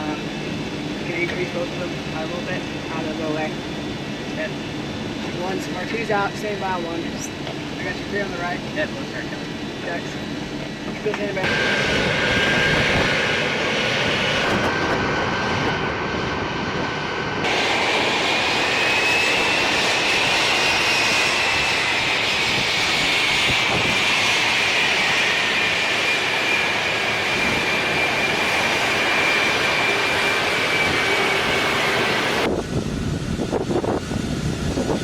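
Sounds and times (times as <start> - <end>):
jet engine roar with whine: 0.0 - 35.0.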